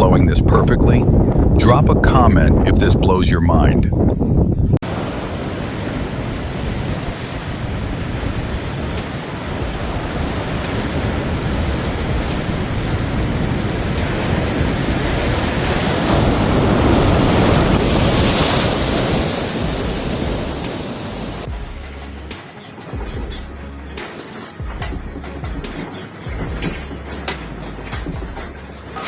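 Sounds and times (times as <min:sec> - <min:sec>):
loud steady rushing noise: 0:04.8 - 0:29.0.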